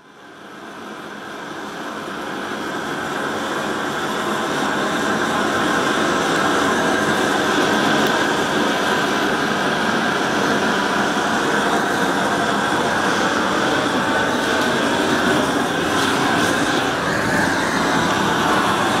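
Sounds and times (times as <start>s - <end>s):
flame rushing: 1.3s - 19.0s.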